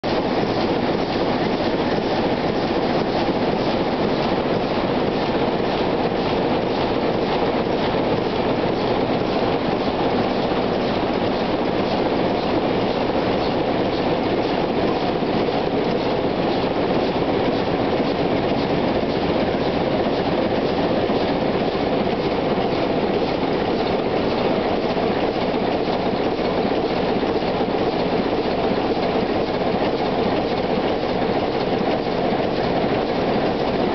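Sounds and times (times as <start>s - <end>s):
diesel engine clattering: 0.2s - 33.9s.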